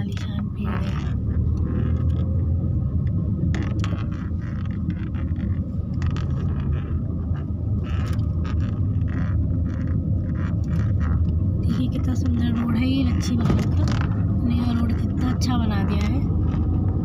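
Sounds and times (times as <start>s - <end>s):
vehicle engine and tyre rumble: 0.0s - 17.0s.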